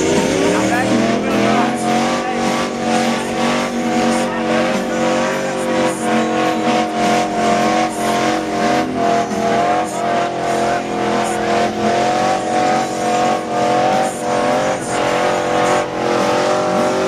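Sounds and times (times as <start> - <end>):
truck engine revving high: 0.0 - 17.0.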